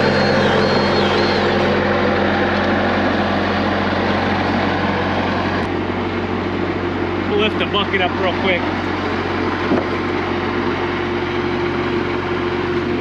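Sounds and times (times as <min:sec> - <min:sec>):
diesel engine running: 0:00.0 - 0:13.0
high rising and falling tone: 0:00.0 - 0:13.0.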